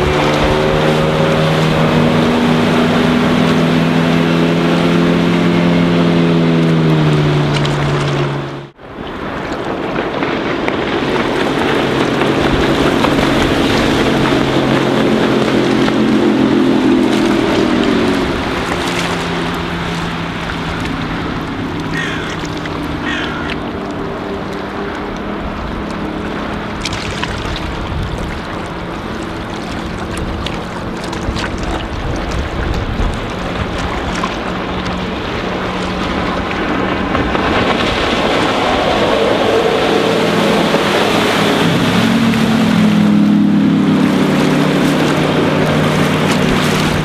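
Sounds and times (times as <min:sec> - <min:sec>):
speedboat engine humming: 0:00.0 - 0:47.0
water rushing under hull: 0:00.0 - 0:47.0
wind buffeting microphone: 0:00.0 - 0:47.0.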